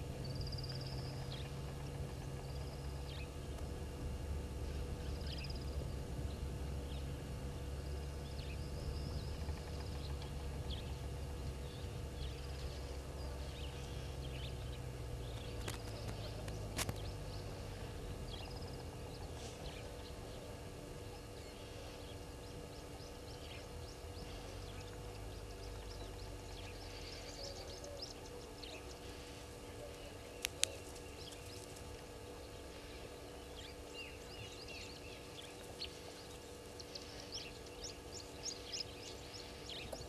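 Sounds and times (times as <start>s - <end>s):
faint steady hum: 0.0s - 40.0s
small birds chirping: 0.0s - 40.0s
steady low rumble: 0.0s - 40.0s.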